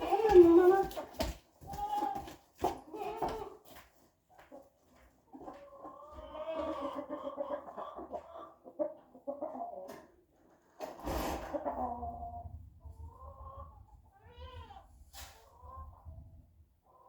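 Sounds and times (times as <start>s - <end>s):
chicken clucking: 0.0s - 17.0s.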